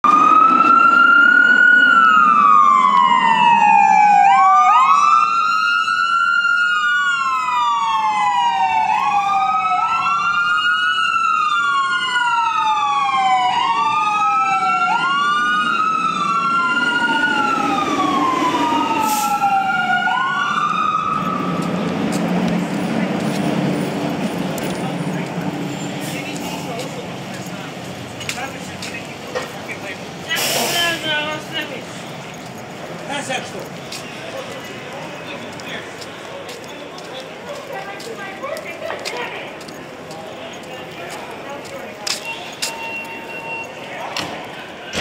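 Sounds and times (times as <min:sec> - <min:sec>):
emergency sirens wailing: 0:00.0 - 0:45.0.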